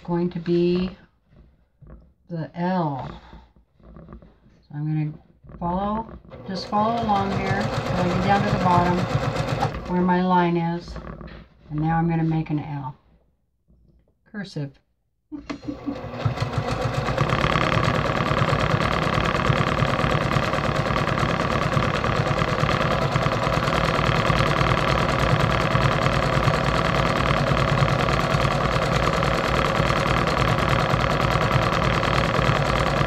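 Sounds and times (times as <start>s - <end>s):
sewing machine stitching: 0.0s - 1.0s, 2.6s - 12.9s, 15.4s - 33.0s.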